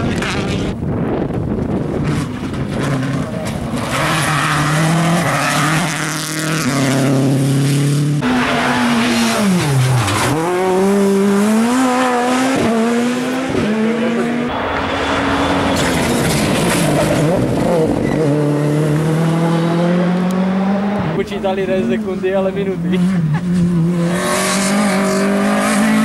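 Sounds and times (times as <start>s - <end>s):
rally car engines at full throttle: 0.0s - 26.0s.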